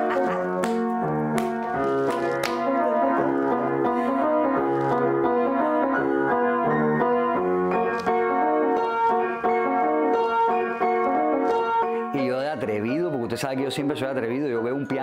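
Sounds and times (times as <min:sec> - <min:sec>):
upright piano playing: 0:00.0 - 0:15.0.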